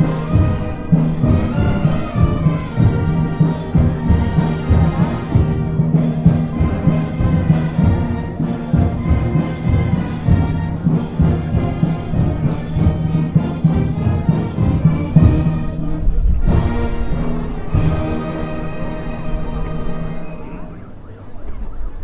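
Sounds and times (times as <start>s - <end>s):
steady drum beat: 0.0s - 20.1s
brass band playing a march: 0.0s - 22.0s.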